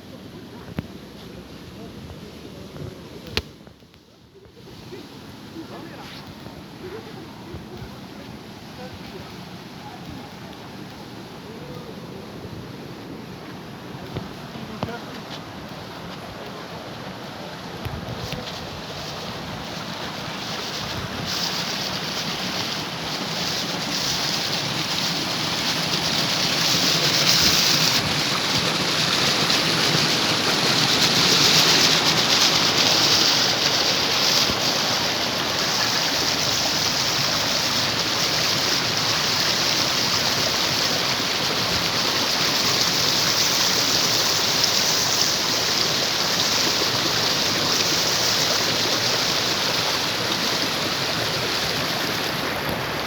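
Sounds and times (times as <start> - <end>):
flowing water rushing: 4.3 - 53.0.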